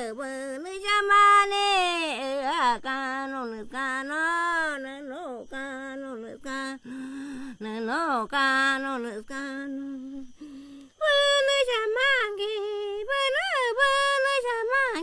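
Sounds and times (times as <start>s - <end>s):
woman singing unaccompanied chant: 0.0s - 15.0s.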